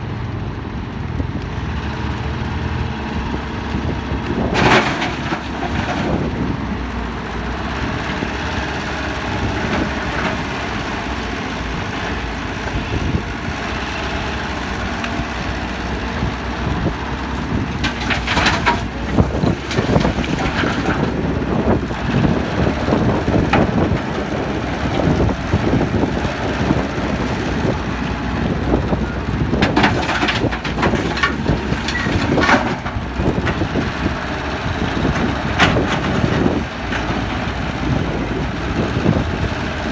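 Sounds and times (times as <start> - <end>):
diesel machinery rumbling: 0.0 - 39.9.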